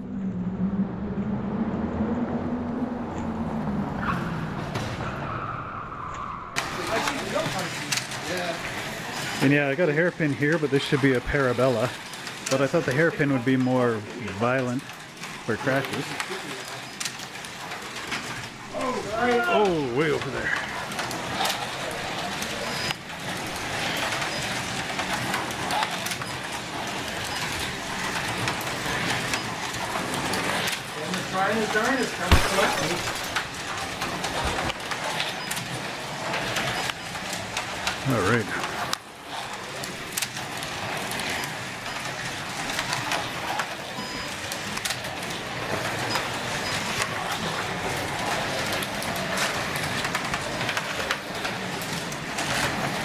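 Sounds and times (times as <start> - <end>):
slot cars whirring: 0.0 - 53.0.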